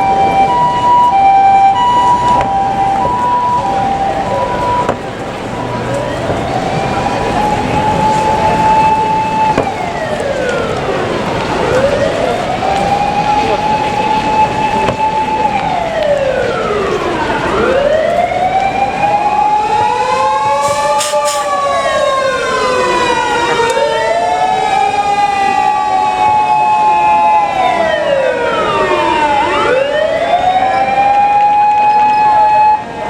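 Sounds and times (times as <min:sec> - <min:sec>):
fire engine sirens wailing: 0:00.0 - 0:33.0.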